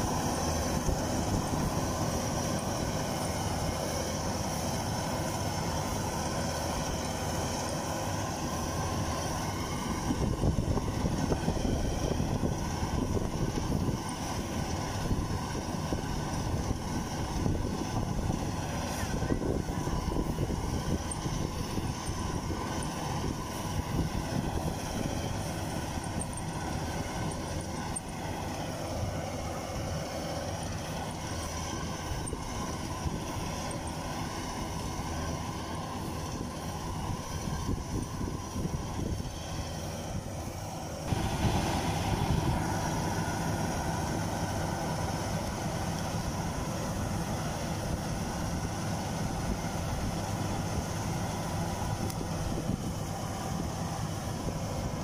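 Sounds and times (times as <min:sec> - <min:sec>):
combine harvester engine drone: 0:00.0 - 0:55.0
machinery clatter: 0:00.0 - 0:55.0.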